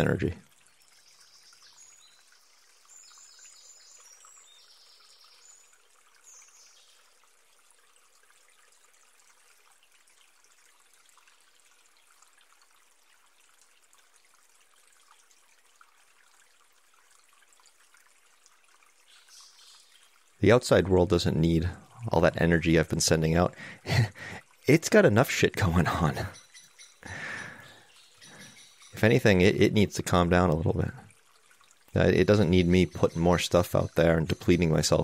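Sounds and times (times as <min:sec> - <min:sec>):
faint trickle of water: 0:00.0 - 0:35.0.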